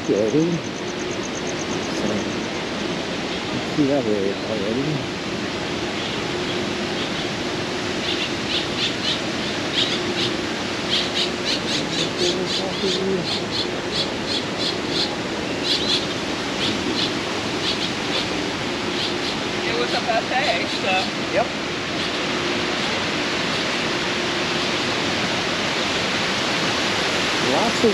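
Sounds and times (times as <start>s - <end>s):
birds chirping: 0.0s - 27.9s
falling water rushing: 0.0s - 27.9s.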